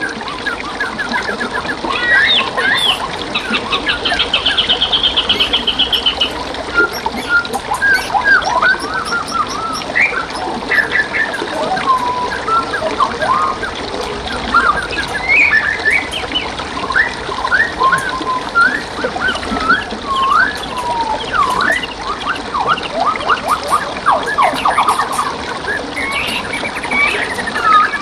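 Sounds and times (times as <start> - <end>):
songbirds singing: 0.0 - 28.0
stream water babbling: 0.0 - 28.0.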